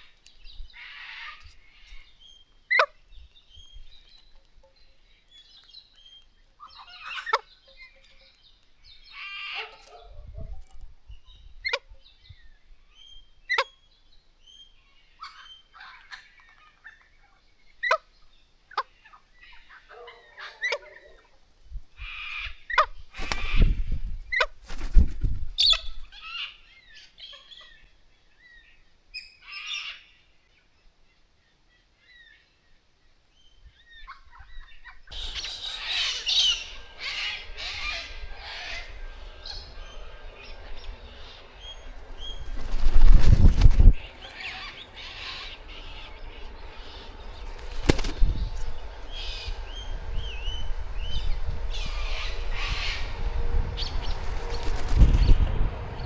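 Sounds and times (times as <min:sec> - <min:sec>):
birds calling and screeching: 0:00.0 - 0:13.9, 0:18.8 - 0:21.4, 0:22.0 - 0:30.2, 0:33.7 - 0:56.0.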